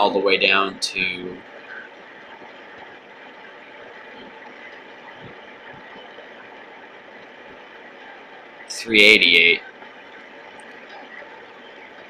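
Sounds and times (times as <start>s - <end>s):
faint crackles: 0.0s - 8.8s, 9.5s - 12.0s
radio static hiss: 0.0s - 12.0s.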